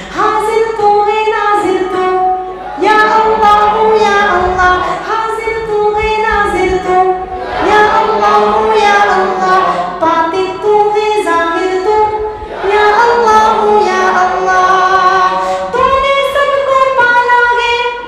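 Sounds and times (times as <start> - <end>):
person singing unaccompanied: 0.0 - 18.0.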